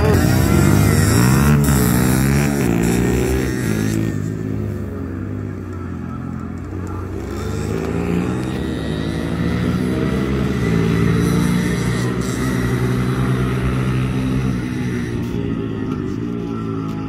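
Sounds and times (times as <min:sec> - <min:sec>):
motorcycles revving: 0:00.0 - 0:17.0.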